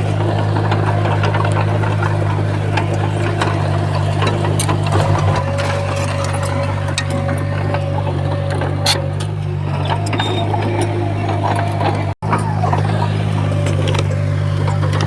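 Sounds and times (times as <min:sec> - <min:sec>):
diesel machinery engine running: 0:00.0 - 0:15.0.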